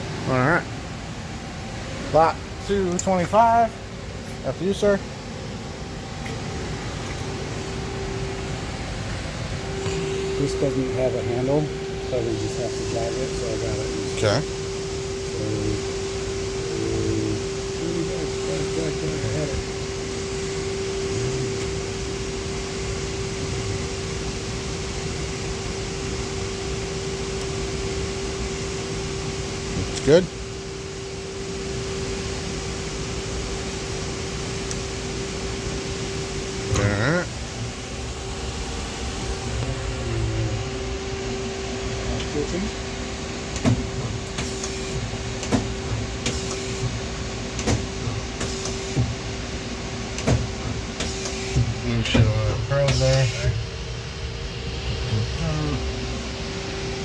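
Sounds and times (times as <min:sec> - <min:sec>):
machine shop hum: 0:00.0 - 0:57.0.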